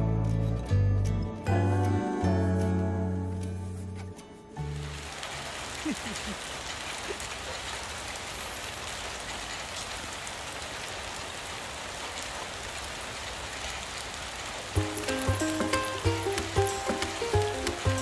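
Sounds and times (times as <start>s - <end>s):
steady rain falling: 1.4s - 18.0s.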